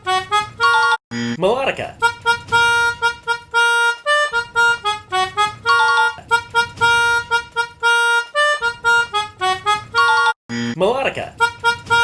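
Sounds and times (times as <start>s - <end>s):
melodica playing a quick tune: 0.0s - 1.4s, 2.0s - 12.0s.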